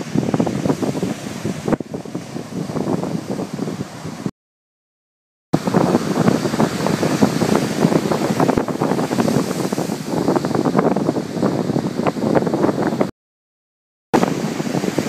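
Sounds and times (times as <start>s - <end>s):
breaking surf: 0.0s - 4.3s, 5.6s - 13.1s, 14.2s - 15.0s
wind buffeting microphone: 0.0s - 4.3s, 5.6s - 13.1s, 14.2s - 15.0s.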